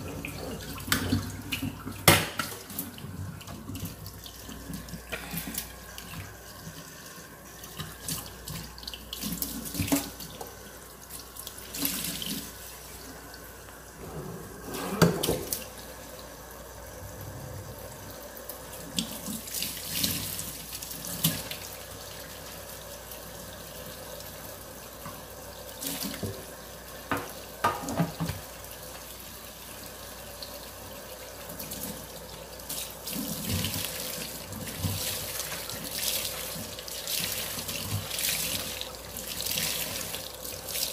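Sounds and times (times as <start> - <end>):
water running at a sink: 0.0 - 40.9.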